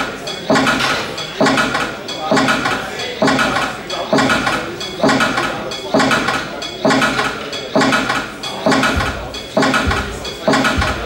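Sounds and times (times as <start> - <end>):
looped sample hits: 0.0 - 11.0.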